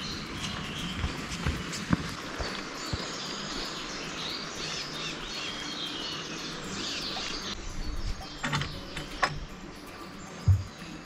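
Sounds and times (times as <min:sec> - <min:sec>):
birds chirping and warbling: 0:00.0 - 0:11.0
steady hiss: 0:00.0 - 0:11.0.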